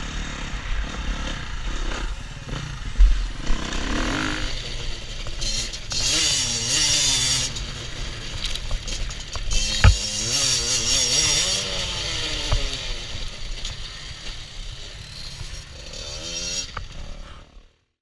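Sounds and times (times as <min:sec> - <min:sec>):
dirt bike engine revving: 0:00.0 - 0:17.6.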